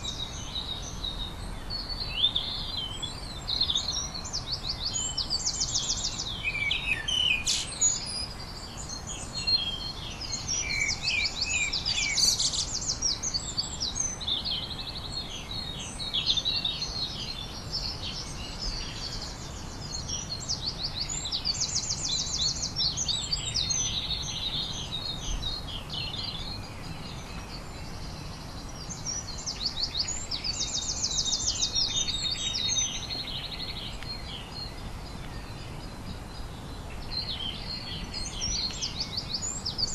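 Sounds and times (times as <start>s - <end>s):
low steady background noise: 0.0s - 39.9s
songbirds singing: 0.0s - 39.9s.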